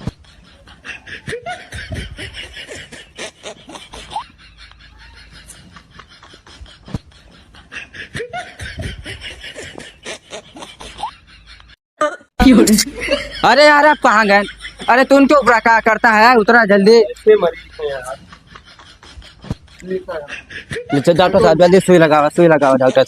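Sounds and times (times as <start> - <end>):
laughter: 0.0 - 11.8, 12.4 - 23.0.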